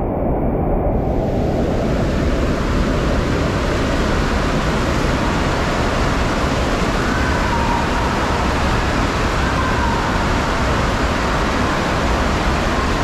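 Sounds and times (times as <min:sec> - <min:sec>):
wave machine water rushing: 0:01.9 - 0:13.0.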